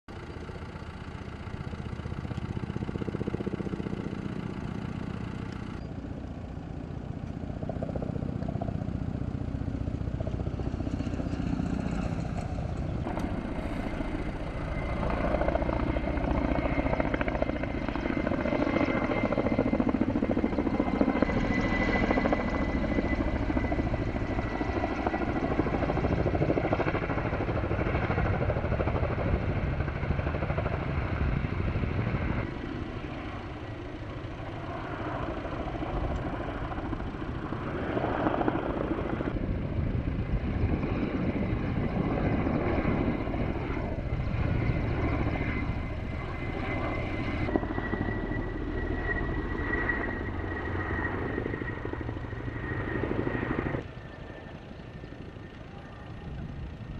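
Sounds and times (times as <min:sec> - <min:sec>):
helicopter rotor and engine: 0:00.1 - 0:56.9.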